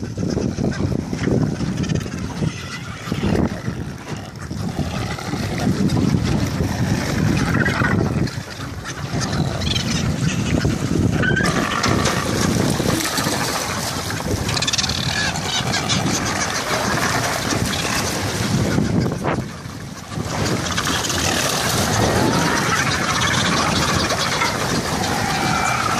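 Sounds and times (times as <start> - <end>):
seabirds splashing: 0.0 - 25.9
wind on microphone: 0.0 - 25.9
water washing around boat: 2.7 - 25.9.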